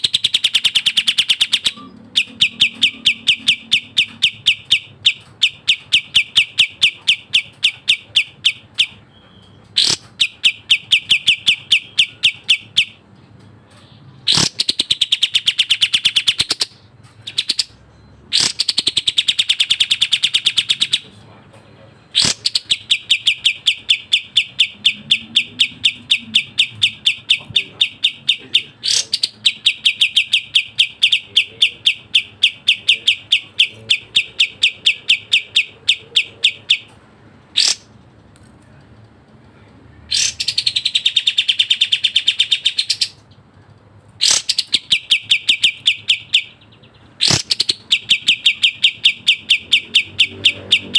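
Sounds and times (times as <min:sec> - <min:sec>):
bulbul singing: 0:00.0 - 0:38.0, 0:39.6 - 0:43.5, 0:44.1 - 0:50.9.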